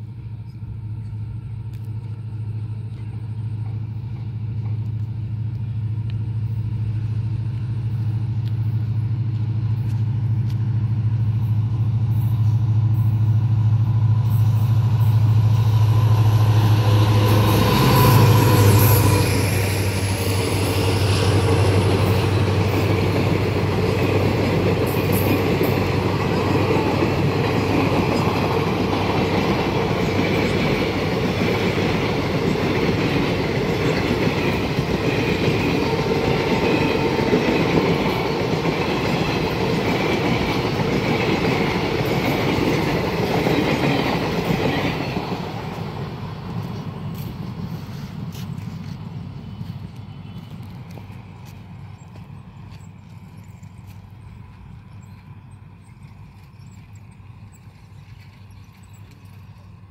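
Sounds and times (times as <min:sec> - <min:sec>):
diesel locomotive engine hum: 0:00.0 - 0:59.9
train wheels rumbling on rails: 0:00.0 - 0:59.9.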